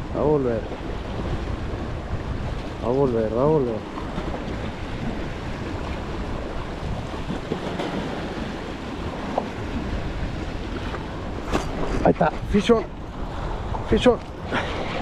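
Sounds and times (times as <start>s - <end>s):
wind buffeting microphone: 0.0s - 15.0s
small waves washing against rocks: 0.7s - 15.0s.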